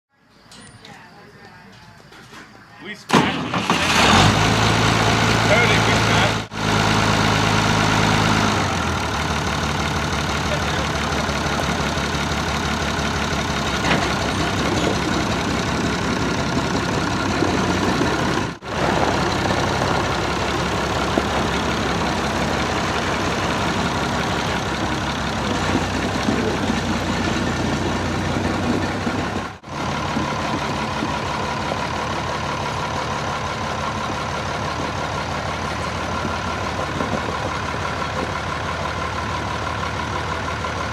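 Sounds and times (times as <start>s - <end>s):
tractor engine running: 2.8s - 40.9s.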